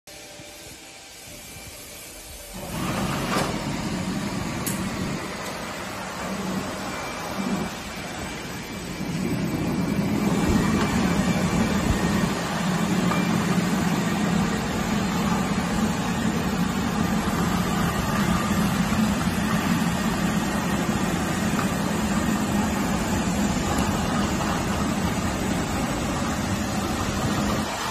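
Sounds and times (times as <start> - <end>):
machine hiss: 0.1 - 27.9
machine low hum: 0.1 - 27.9.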